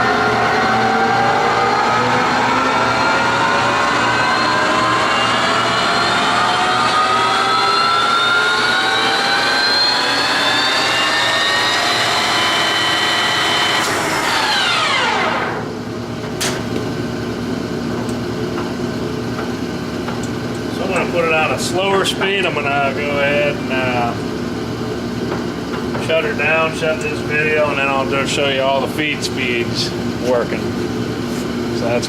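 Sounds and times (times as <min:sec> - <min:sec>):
lathe gear whine: 0:00.0 - 0:32.0.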